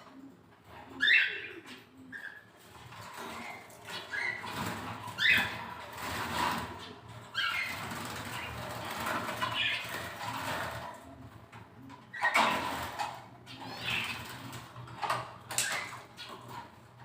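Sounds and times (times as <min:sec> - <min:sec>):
canaries fluttering wings: 0:02.6 - 0:17.0.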